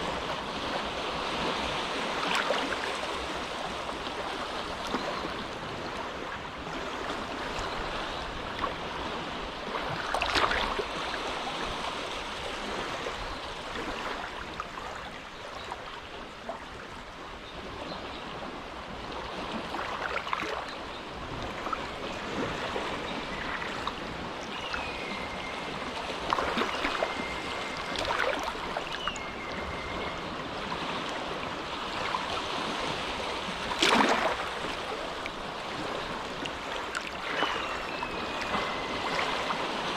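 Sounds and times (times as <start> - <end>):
water splashes: 0.0 - 16.7, 19.3 - 39.9
gentle waves lapping: 0.0 - 39.9.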